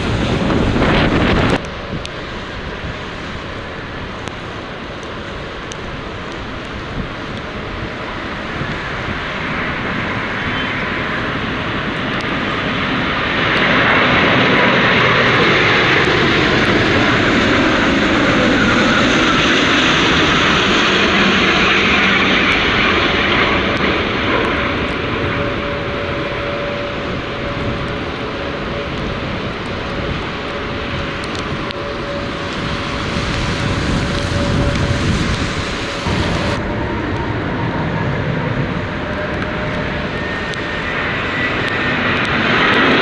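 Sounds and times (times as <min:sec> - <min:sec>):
jet airliner engine roar: 0:00.0 - 0:43.0.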